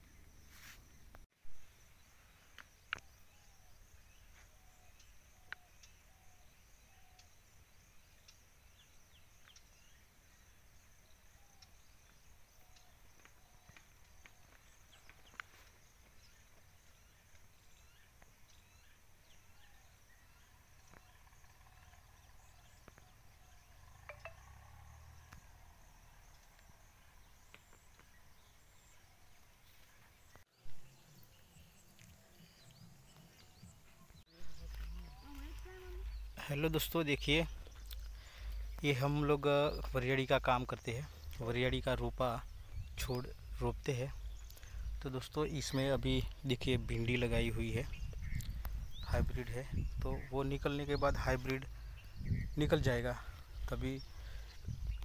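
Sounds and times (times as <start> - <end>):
soft bird chirps: 0.0 - 55.0.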